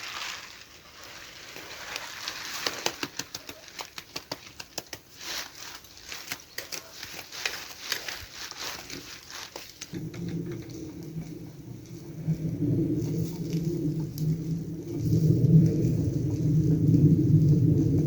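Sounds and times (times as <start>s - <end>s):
wood fire crackling and popping: 1.6s - 18.0s.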